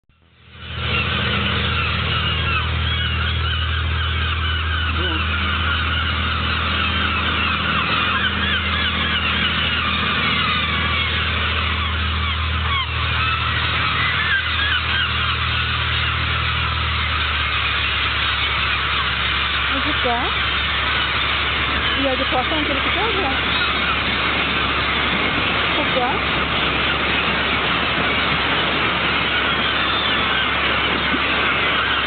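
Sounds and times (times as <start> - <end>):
boat engine hum: 0.1 - 32.0
gulls calling: 0.1 - 32.0.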